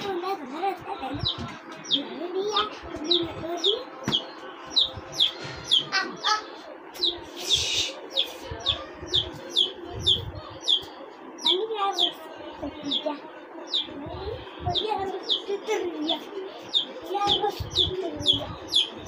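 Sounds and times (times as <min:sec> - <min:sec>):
baby chick peeping: 0:00.8 - 0:19.0.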